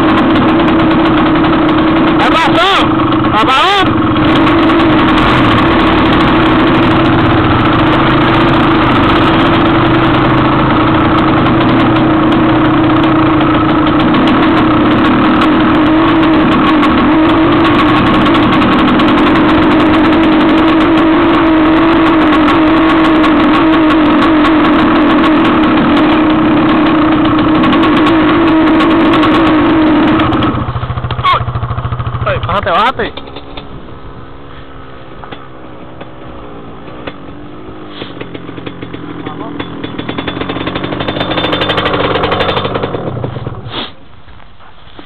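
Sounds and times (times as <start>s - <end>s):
dirt bike engine idling: 0.0s - 45.0s.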